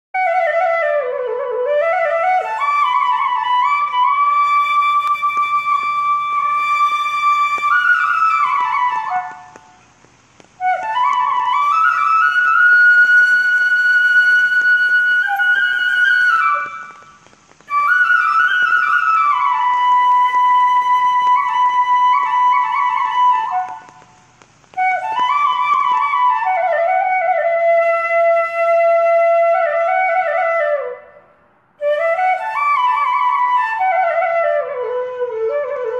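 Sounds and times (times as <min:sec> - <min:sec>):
solo flute melody: 0:00.2 - 0:09.9, 0:10.5 - 0:35.9.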